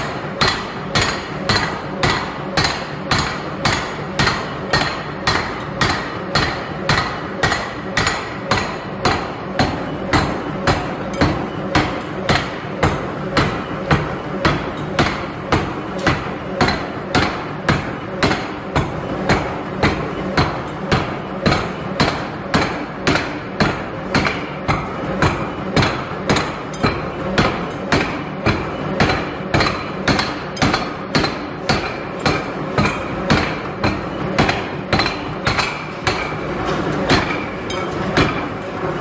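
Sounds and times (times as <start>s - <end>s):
forging hammer striking steel: 0.0s - 39.0s.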